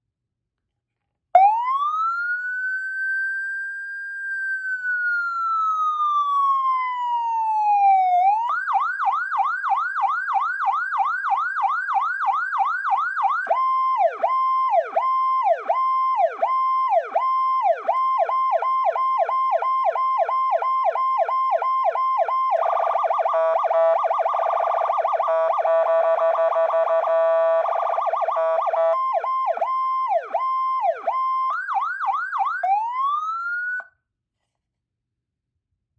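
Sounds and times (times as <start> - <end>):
siren wailing and yelping: 1.4 - 33.9.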